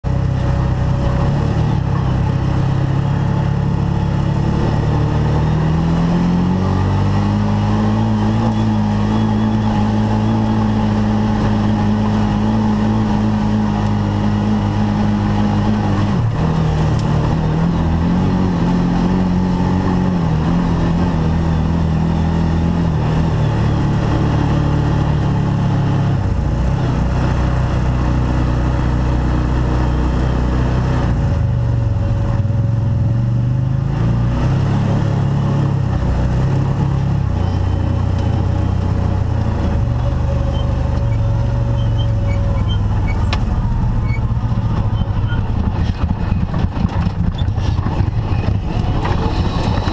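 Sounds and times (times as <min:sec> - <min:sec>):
utility vehicle engine under load: 0:00.0 - 0:49.9.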